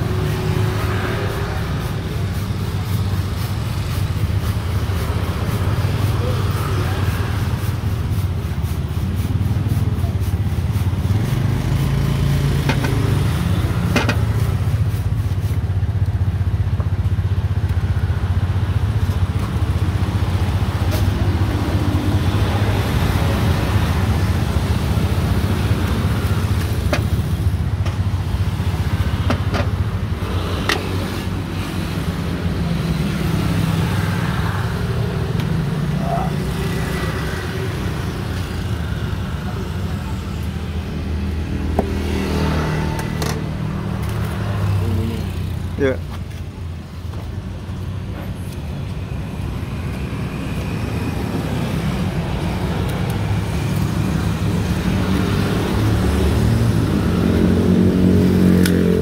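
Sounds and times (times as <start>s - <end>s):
motorcycles and cars passing: 0.0s - 59.0s
street traffic rumble: 0.0s - 59.0s.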